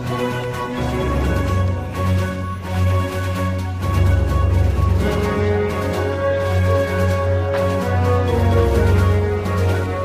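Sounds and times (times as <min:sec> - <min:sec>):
background music with bass and beat: 0:00.0 - 0:10.0.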